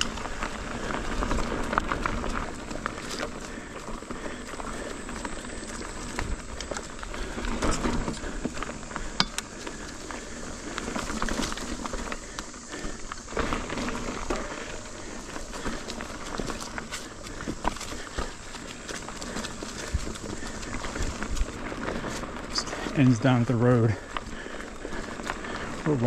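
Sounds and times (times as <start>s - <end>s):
bike clicks and rattles: 0.0s - 26.0s
bike tyres rolling on dirt trail: 0.0s - 26.0s.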